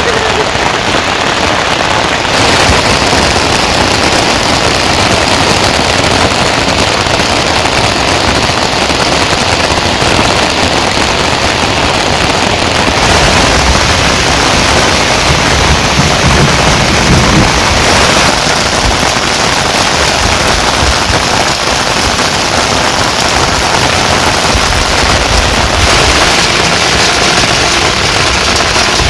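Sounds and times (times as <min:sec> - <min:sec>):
heavy rain patter: 0:00.0 - 0:29.0.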